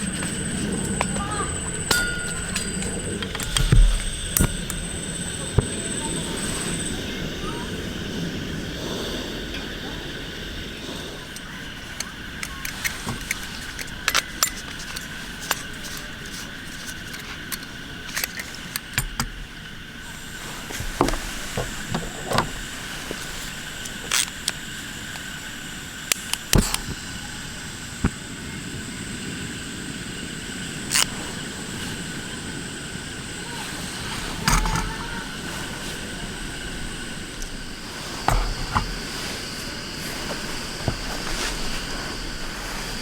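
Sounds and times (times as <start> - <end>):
background hiss: 0.0 - 43.0
faint high steady tones: 0.0 - 43.0.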